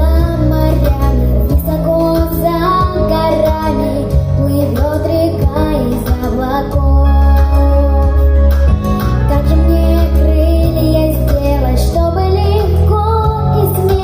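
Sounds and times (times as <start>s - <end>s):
girl singing: 0.0s - 8.4s, 9.3s - 14.0s
instrumental accompaniment: 0.0s - 14.0s
low bass notes: 0.0s - 14.0s.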